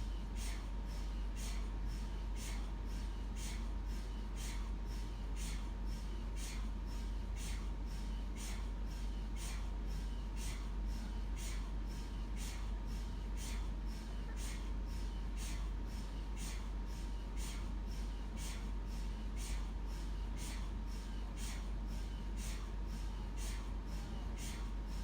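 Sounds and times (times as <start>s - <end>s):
mri gradient coils knocking: 0.0s - 25.0s
steady low hum: 0.0s - 25.0s.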